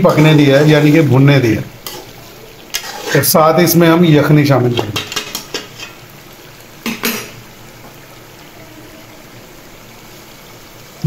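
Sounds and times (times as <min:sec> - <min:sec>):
curry bubbling and sizzling in pot: 0:00.0 - 0:11.0.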